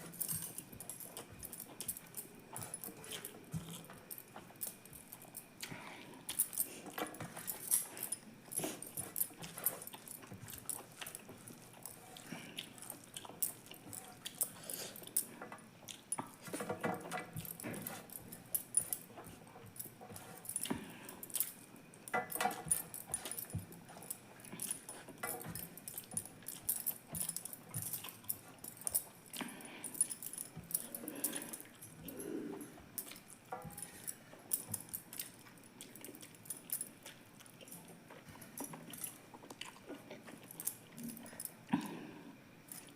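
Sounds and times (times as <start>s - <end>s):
chewing and mouth smacking: 0.1s - 41.9s.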